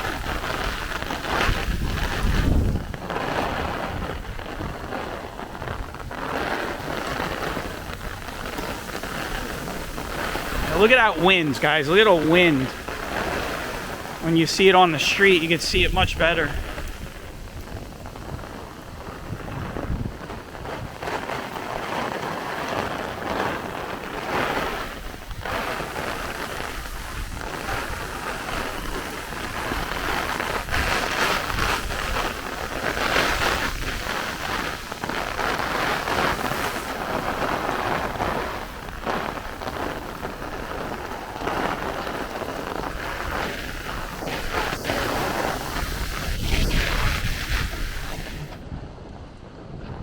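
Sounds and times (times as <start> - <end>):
heavy rain downpour: 0.0 - 48.7
wind rumbling on microphone: 0.0 - 50.0.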